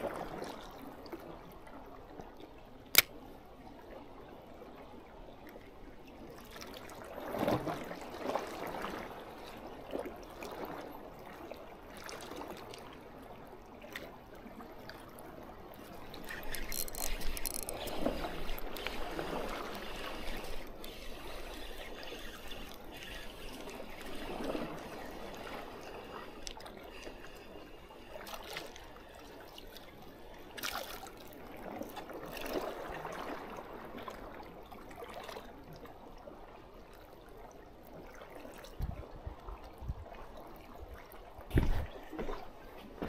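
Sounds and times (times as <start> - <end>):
seawater sloshing among rocks: 6.1 - 43.0.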